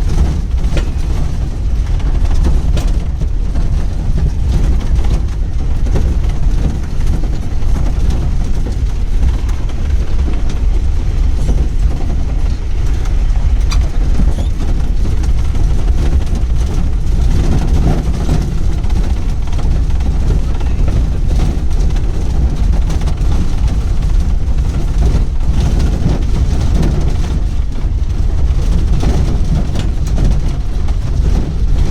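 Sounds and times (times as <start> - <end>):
vehicle engine and road rumble: 0.0 - 31.9.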